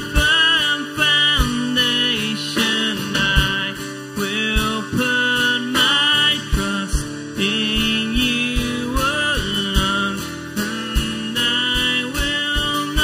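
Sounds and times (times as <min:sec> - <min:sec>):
drum kit beat: 0:00.0 - 0:13.0
man singing: 0:00.0 - 0:13.0
strummed acoustic guitar: 0:00.0 - 0:13.0.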